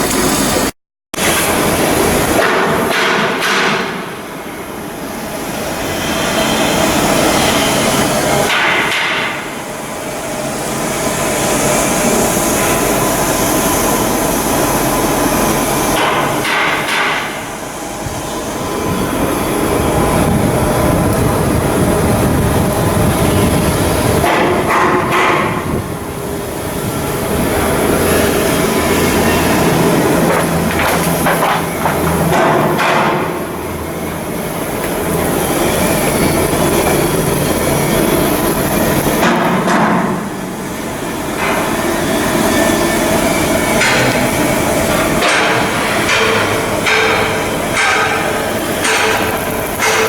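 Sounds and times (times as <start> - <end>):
shipyard clattering rumble: 0.0 - 50.0.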